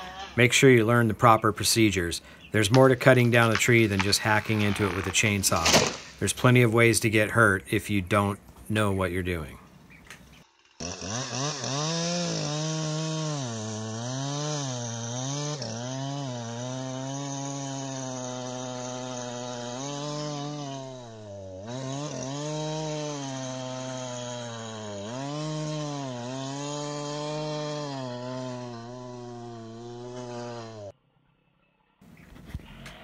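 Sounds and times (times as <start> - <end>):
chainsaw cutting a log: 0.0 - 6.7, 10.5 - 30.9.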